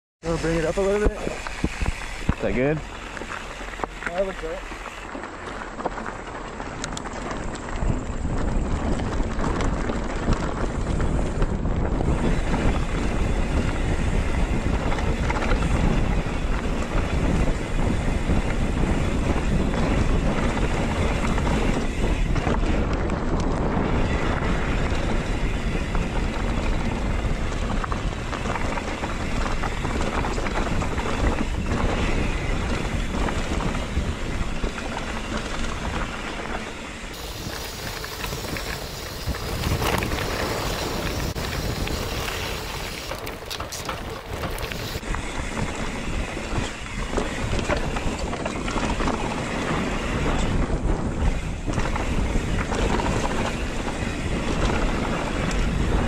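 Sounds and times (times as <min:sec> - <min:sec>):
wind buffeting microphone: 0:00.2 - 0:56.0.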